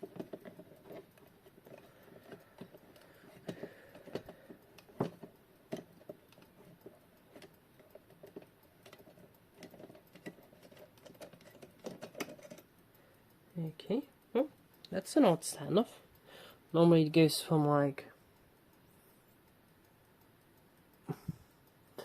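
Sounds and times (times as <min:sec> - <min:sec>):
small clicks and taps handling clock parts: 0:00.0 - 0:22.0.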